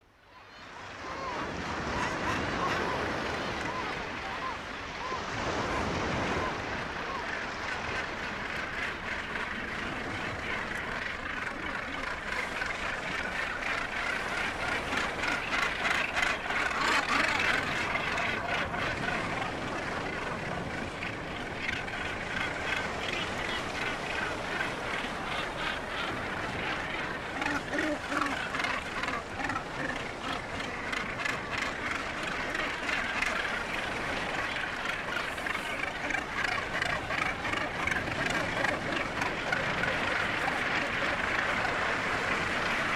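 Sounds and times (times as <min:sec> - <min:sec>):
seabird colony harsh calls: 0:00.5 - 0:42.9.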